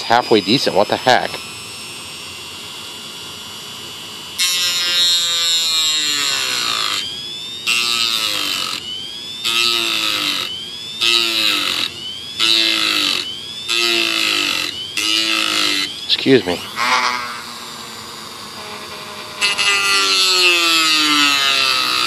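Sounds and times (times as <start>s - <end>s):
rotary tool cutting wood: 0.0s - 1.5s, 4.4s - 22.0s.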